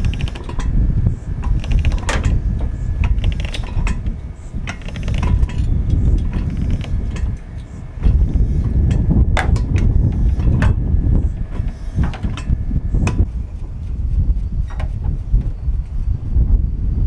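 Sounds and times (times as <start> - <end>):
jack pump clicking and clanking: 0.0 - 15.6
low rumble: 0.0 - 17.0.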